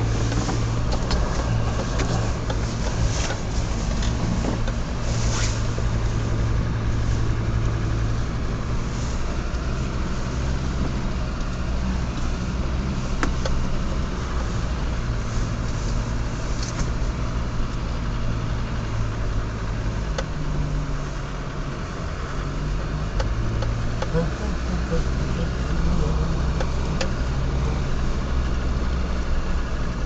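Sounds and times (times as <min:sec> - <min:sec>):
car engine drone from cabin: 0:00.0 - 0:30.0.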